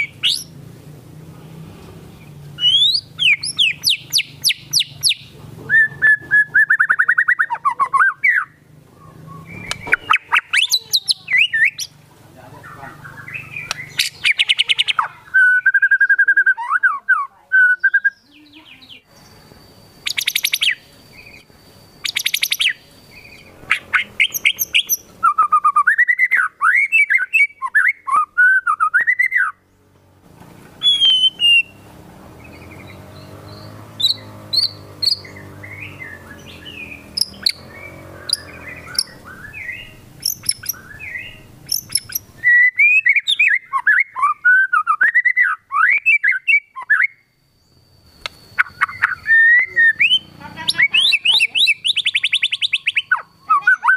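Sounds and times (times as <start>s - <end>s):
bird singing varied song: 0.0s - 0.8s, 1.8s - 53.9s.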